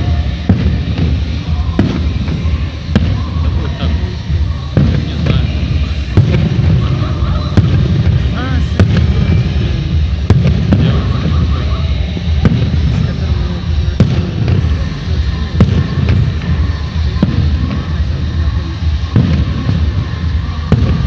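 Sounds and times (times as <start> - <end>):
deep rumble of distant booms: 0.0 - 21.0.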